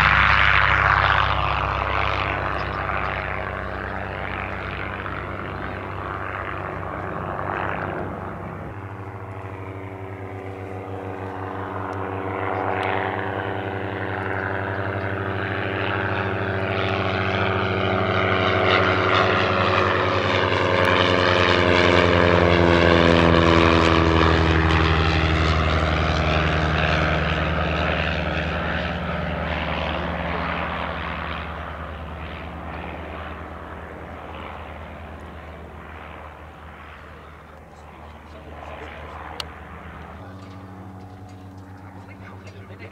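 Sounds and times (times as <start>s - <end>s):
propeller plane engines droning: 0.0s - 42.9s.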